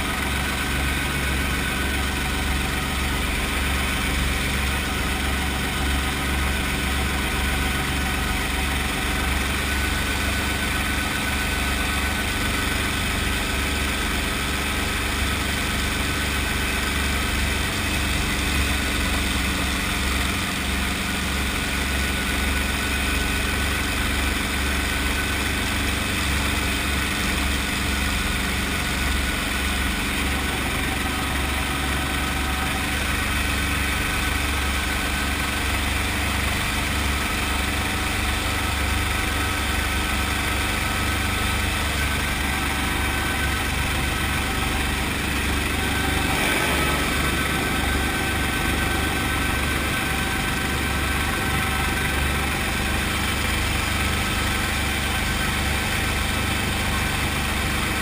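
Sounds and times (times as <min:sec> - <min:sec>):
helicopter engine droning: 0:00.0 - 0:58.0.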